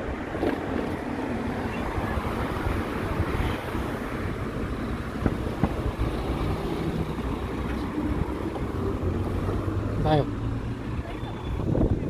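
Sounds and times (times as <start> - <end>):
low road rumble: 0.0 - 12.0
wind buffeting microphone: 0.1 - 10.0, 10.8 - 12.0.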